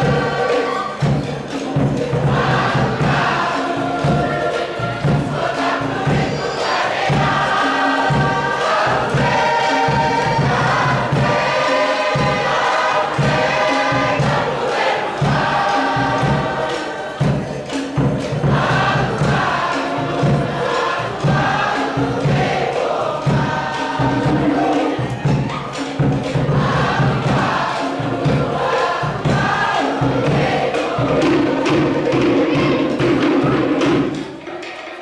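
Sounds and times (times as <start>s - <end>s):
group singing in harmony: 0.0s - 35.0s
steady regular beat: 0.0s - 35.0s.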